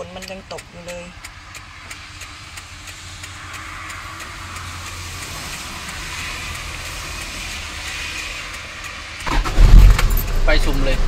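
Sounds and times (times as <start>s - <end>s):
rain hissing: 1.1s - 11.0s.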